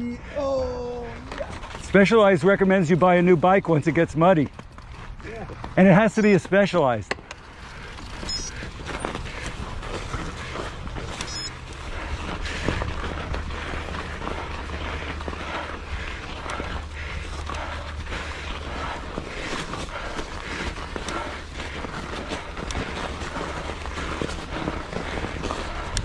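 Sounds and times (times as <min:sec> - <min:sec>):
bike knocking and rattling: 0:01.2 - 0:26.0
bike tyres rushing over mud: 0:01.3 - 0:26.0.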